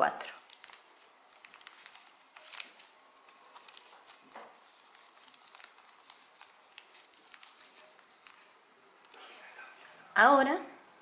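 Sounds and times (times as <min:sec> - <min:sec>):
paper being folded and creased: 0:00.2 - 0:10.0.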